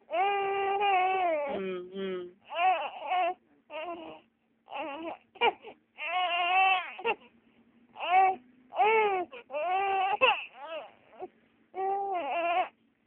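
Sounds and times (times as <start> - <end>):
baby crying: 0.1 - 1.6, 2.5 - 7.2, 8.0 - 12.8.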